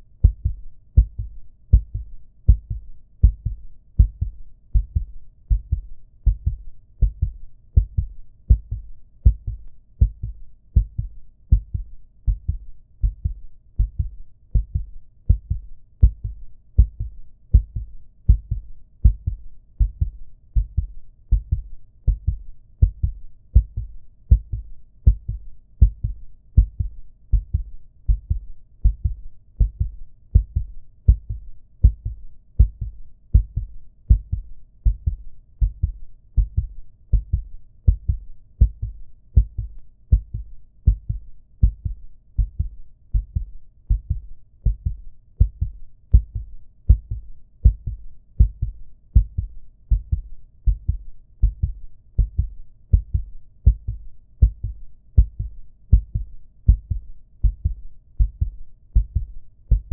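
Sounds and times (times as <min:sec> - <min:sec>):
heartbeat thumps: 0:00.2 - 0:59.9.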